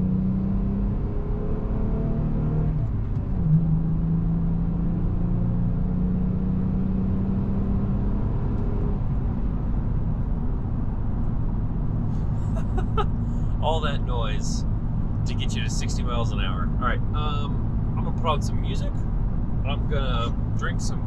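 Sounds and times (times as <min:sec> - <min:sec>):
road rumble: 0:00.0 - 0:21.0
vehicle engine accelerating: 0:00.0 - 0:21.0.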